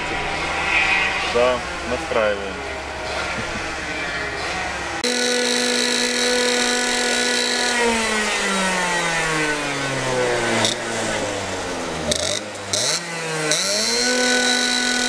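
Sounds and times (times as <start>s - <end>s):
distant engine hum: 0.0s - 15.0s
kart engine revving high: 0.0s - 15.0s.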